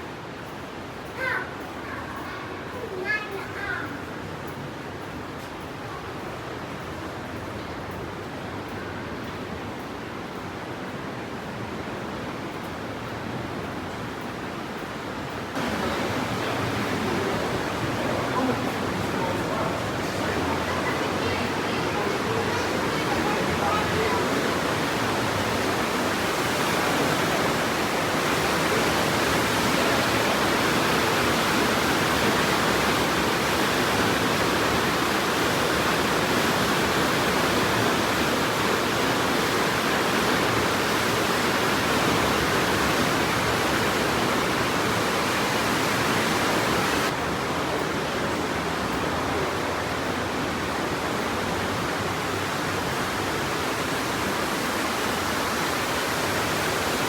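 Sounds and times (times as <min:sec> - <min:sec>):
river rushing white water: 0:06.2 - 0:57.0.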